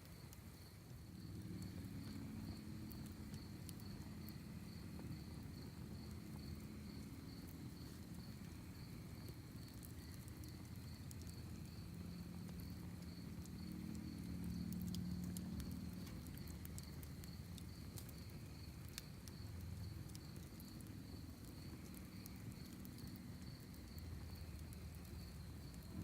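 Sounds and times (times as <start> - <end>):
campfire crackles and pops: 0.0 - 26.0
crickets chirping: 0.0 - 26.0.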